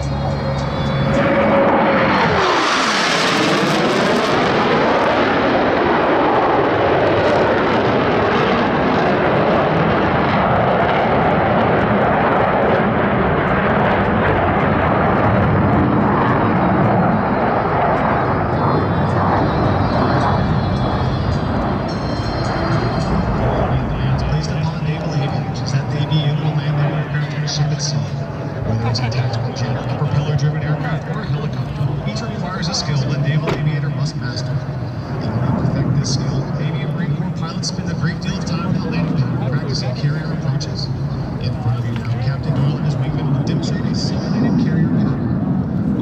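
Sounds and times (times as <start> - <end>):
military jets passing low: 0.0 - 46.0
sustained jet roar: 0.0 - 46.0.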